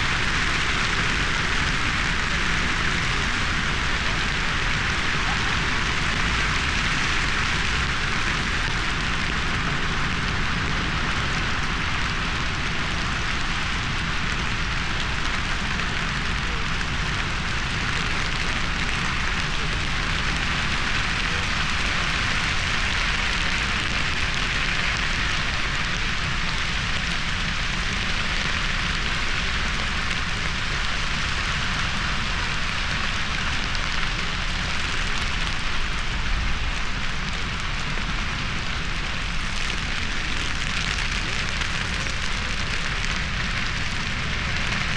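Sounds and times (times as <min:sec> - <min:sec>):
fire crackling and hissing: 0:00.0 - 0:44.9.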